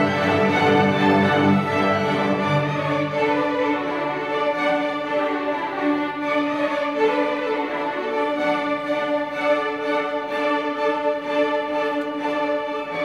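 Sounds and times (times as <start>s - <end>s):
string orchestra playing: 0.0s - 13.0s.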